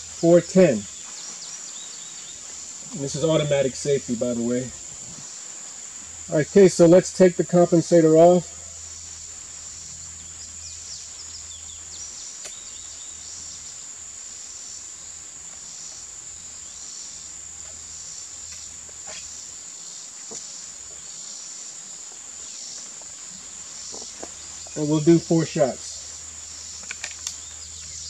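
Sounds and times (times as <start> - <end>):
insects chorus: 0.0 - 28.0.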